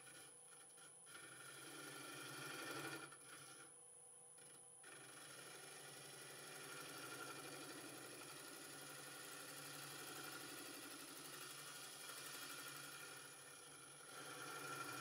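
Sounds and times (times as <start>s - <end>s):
gouge scraping spinning wood: 0.0s - 3.8s, 4.4s - 15.0s
wood lathe motor hum: 0.0s - 3.8s, 4.4s - 15.0s.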